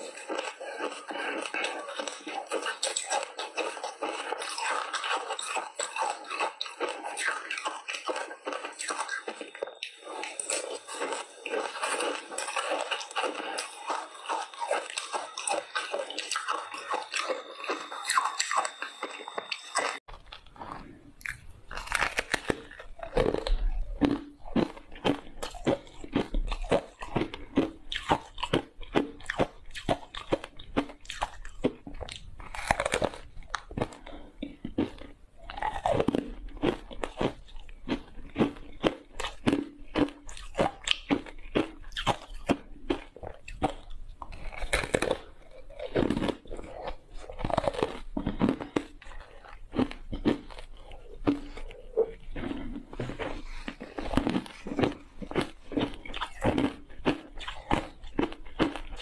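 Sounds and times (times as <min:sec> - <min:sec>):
ice crunching between teeth: 0:00.0 - 0:59.0.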